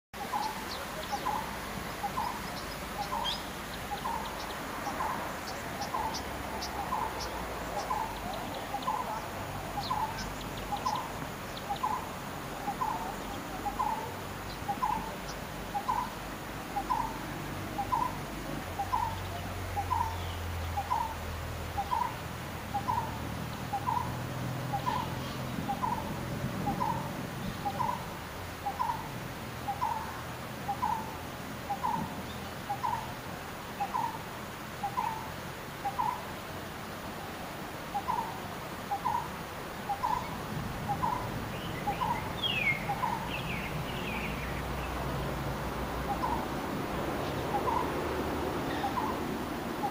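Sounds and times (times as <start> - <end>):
birds high chirps: 0.2 - 37.1, 37.9 - 49.9.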